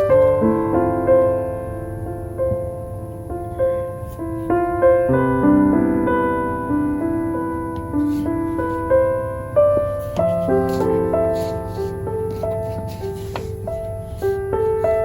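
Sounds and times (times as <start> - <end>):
slow solo piano music: 0.0 - 15.0.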